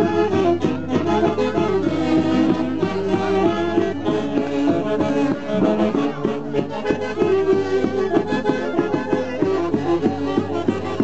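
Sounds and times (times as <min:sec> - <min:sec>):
wind instruments dance music: 0:00.0 - 0:11.0.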